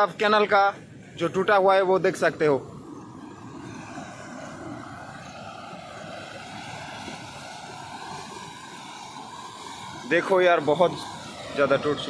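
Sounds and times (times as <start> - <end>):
floodwater rushing through gap: 1.2 - 12.0.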